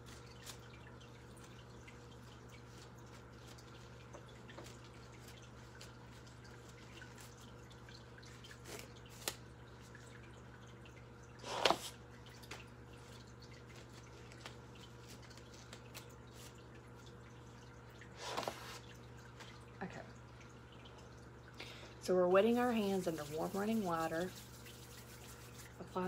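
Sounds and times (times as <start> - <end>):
water dripping into a sink: 0.0 - 26.0.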